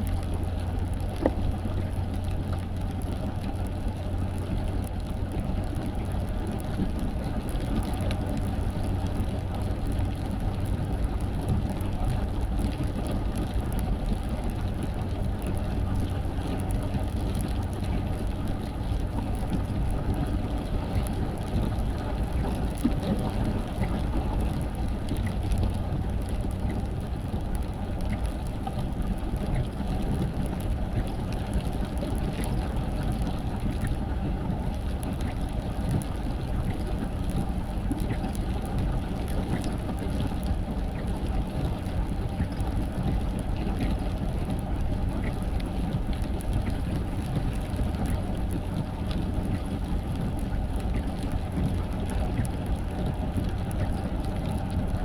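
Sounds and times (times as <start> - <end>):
faint ticks: 0.0 - 55.0.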